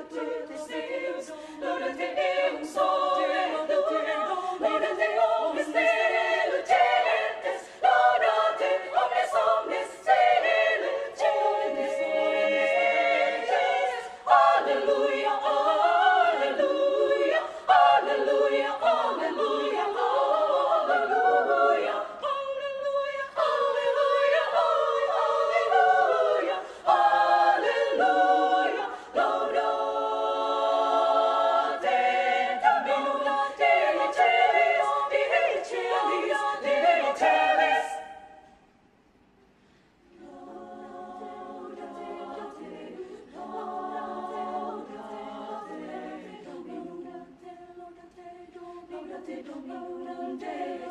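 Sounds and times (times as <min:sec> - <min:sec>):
women's choir singing a cappella: 0:00.0 - 0:38.8, 0:40.1 - 0:50.9.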